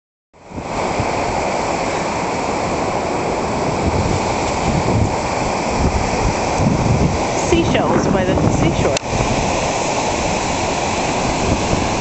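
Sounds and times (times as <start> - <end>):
ocean waves breaking: 0.4 - 12.0
wind on microphone: 0.4 - 12.0.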